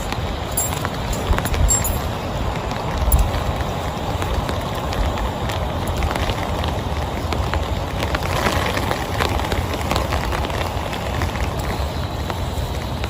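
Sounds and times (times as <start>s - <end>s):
heavy rain falling: 0.0s - 13.0s
raindrops hitting a surface: 0.0s - 13.0s.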